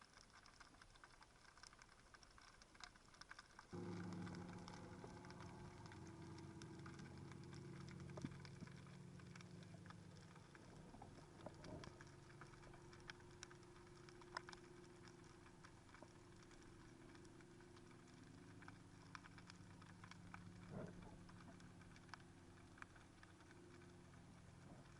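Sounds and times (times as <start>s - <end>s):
small underwater clicks and crackles: 0.0s - 24.9s
steady low hum: 3.7s - 24.9s.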